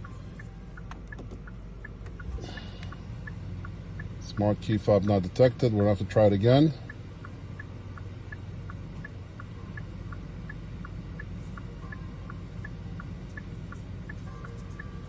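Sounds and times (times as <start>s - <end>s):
steady low hum: 0.0s - 15.0s
turn signal ticking: 0.0s - 15.0s.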